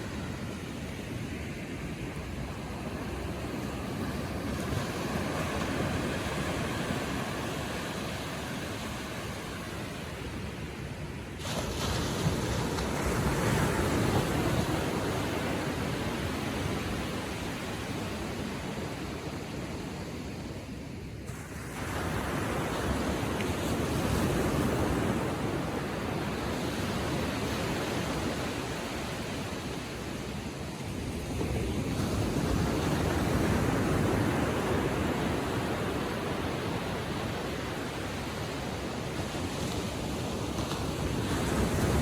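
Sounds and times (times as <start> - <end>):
waves washing onto a beach: 0.0 - 42.0
wind on microphone: 0.0 - 42.0.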